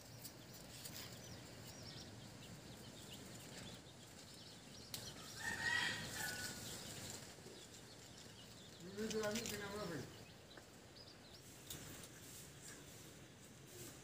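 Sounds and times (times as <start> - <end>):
small bird chirps: 0.0 - 13.1
faint background noise: 0.0 - 14.0.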